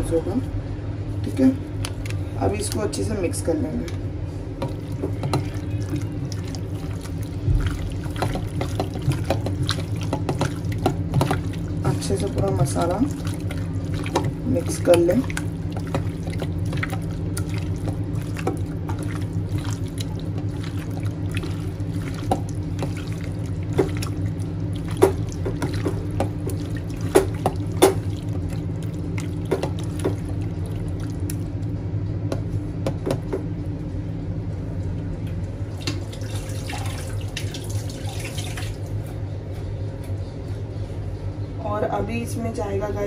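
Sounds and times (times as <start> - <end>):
low hum: 0.0 - 43.0
wet squelches of stirring: 1.1 - 41.0.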